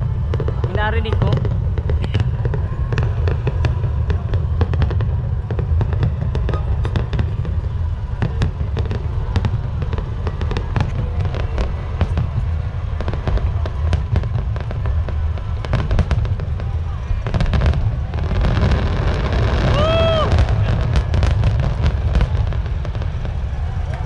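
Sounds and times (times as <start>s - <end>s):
fireworks cracking and popping: 0.0s - 24.0s
low rumble: 0.0s - 24.0s.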